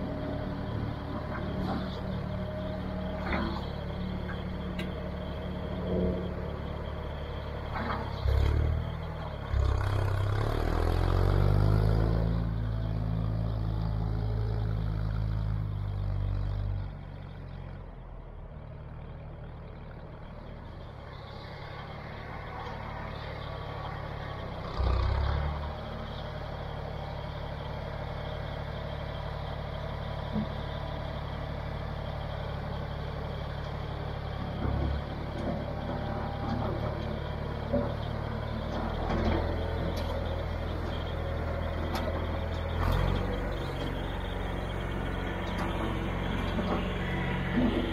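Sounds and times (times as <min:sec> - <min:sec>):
tractor engine under load: 0:00.0 - 0:47.9.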